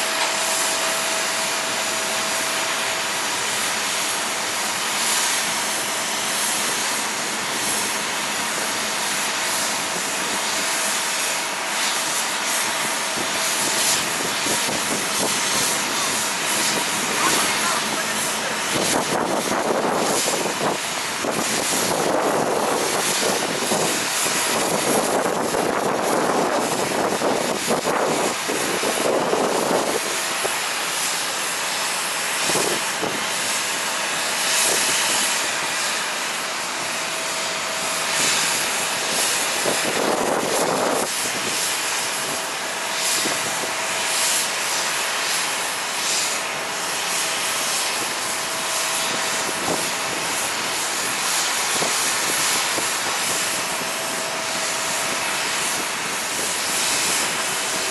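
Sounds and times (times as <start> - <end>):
jet engines rushing: 0.0 - 57.9.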